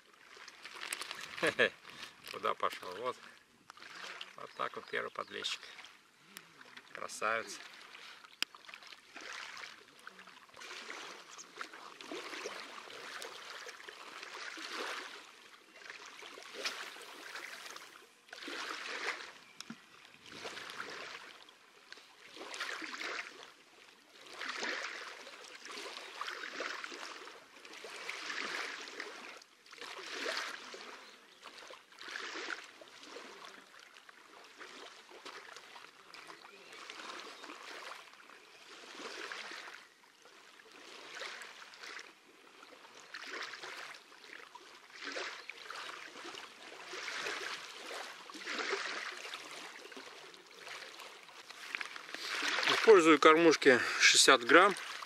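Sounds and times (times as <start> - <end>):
waves lapping on pebbly shore: 0.0 - 55.0.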